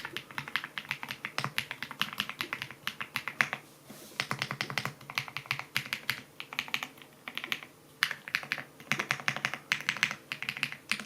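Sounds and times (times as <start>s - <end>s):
mechanical keyboard typing: 0.0s - 3.6s, 4.2s - 11.0s.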